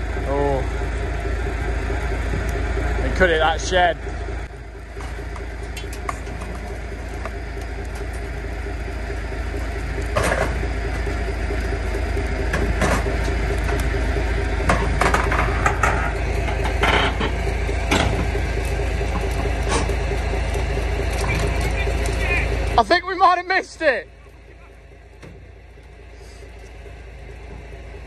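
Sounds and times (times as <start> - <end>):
truck engine running under load: 0.0 - 28.0.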